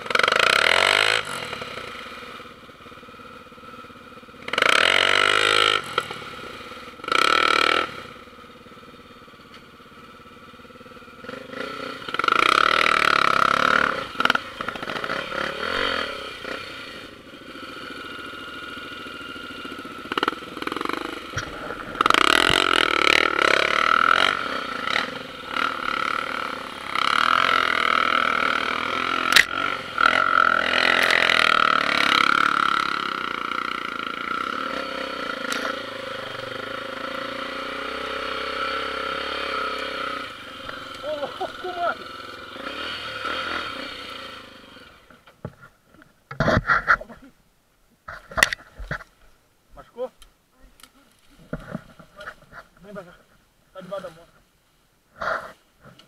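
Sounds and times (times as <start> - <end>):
motorcycle engine revving: 0.0 - 47.3, 50.8 - 54.4.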